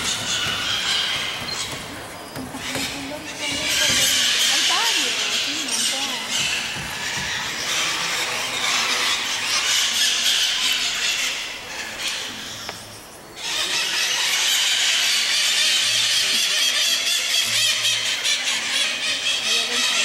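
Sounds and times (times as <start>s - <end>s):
many birds screeching: 0.0s - 20.0s.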